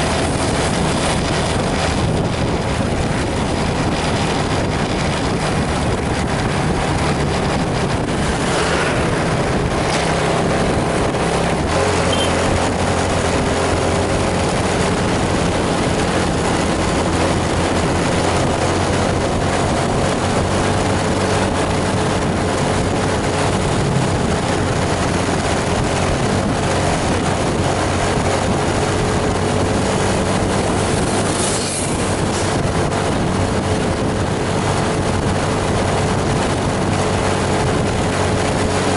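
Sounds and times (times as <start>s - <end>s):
diesel bus engine running: 0.0s - 38.9s.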